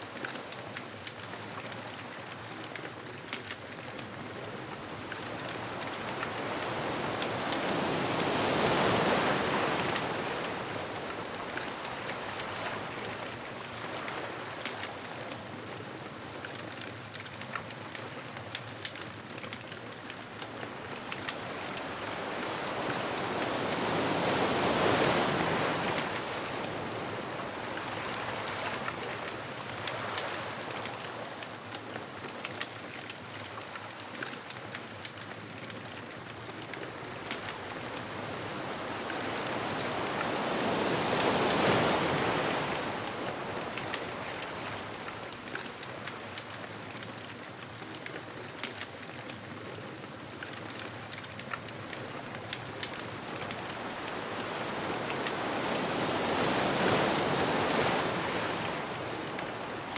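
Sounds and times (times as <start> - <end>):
fine crackling patter: 0.0 - 59.9
ocean waves washing on beach: 0.0 - 59.9.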